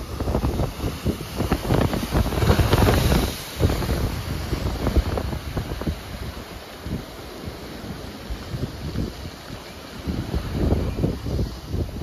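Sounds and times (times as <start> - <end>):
sea surf breaking: 0.0 - 12.0
wind on microphone: 0.0 - 12.0.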